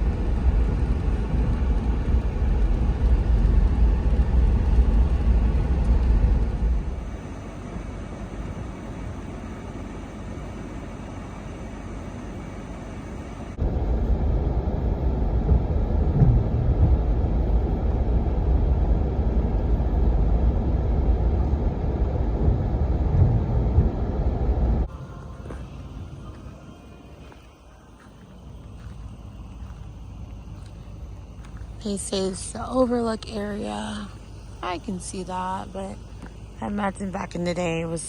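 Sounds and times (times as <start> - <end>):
car cabin road and engine noise: 0.0 - 38.0.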